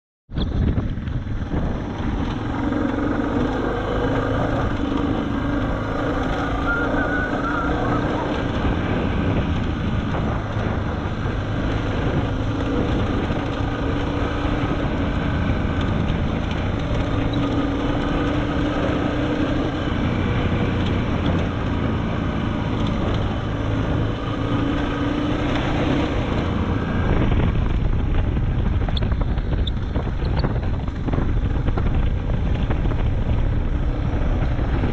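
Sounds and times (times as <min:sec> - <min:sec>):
wind buffeting microphone: 0:00.3 - 0:34.9
motorcycle engine revving: 0:00.4 - 0:34.9.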